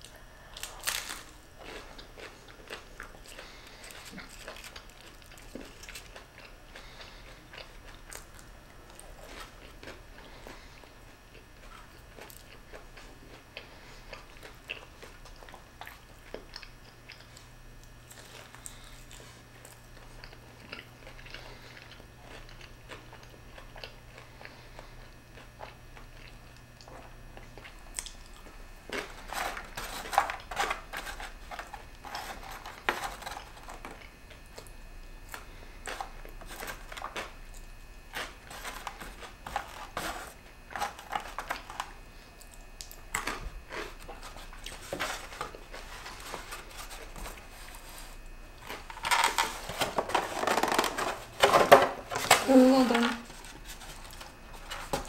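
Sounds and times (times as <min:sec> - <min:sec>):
person chewing crispy food: 0:00.0 - 0:49.8
crackly crunching: 0:00.0 - 0:55.0.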